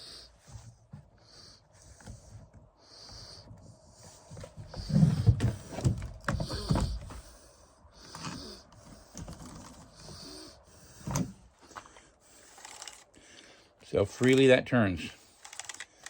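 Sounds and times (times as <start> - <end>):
breathing through the nose: 0.0 - 13.8.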